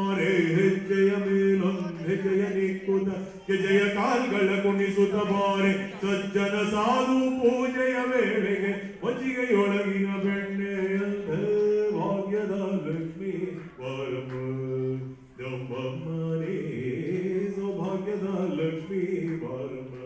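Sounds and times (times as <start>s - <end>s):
man singing chant-like melody: 0.0s - 20.0s.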